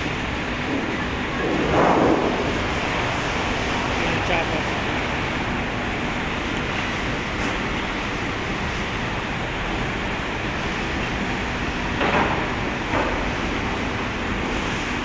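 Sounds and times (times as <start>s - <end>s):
machinery rushing noise: 0.0s - 15.0s.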